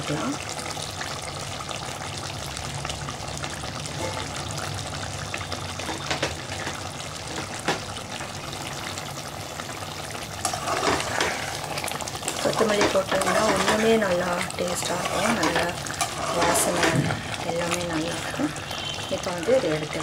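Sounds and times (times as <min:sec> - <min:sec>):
gravy bubbling in a pot: 0:00.0 - 0:20.0.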